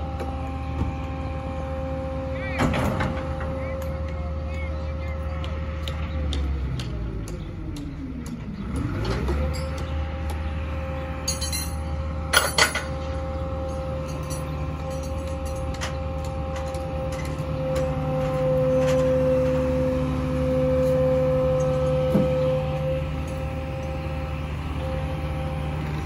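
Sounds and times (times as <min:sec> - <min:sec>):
crane machinery hum and whine: 0:00.0 - 0:26.0.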